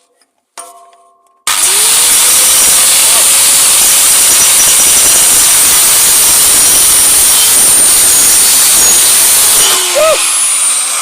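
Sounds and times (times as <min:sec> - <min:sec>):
angle grinder cutting metal: 0:01.5 - 0:11.0.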